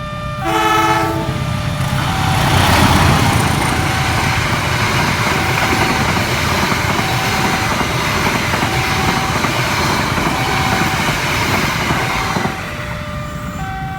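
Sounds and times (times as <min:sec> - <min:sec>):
train passing at speed: 0:00.0 - 0:13.9.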